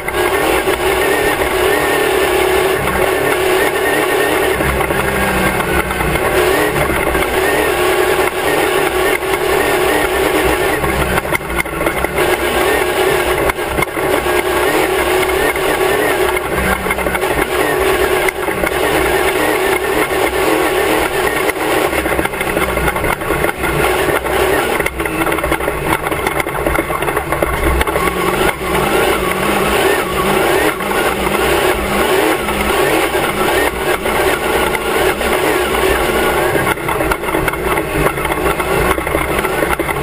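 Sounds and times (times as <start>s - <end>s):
car knocking and rattling: 0.0s - 40.0s
race car engine running hard: 0.0s - 40.0s.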